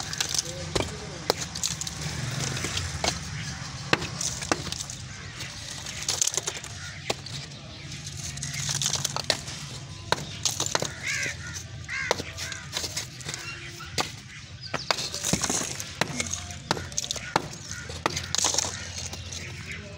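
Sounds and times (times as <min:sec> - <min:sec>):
bird calling: 0:00.0 - 0:19.9
rubble crunching and clattering: 0:00.0 - 0:19.9.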